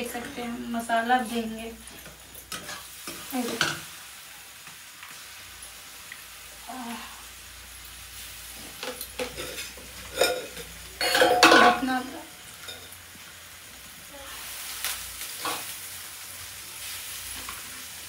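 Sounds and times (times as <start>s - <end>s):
paste sizzling in a pan: 0.0s - 18.0s.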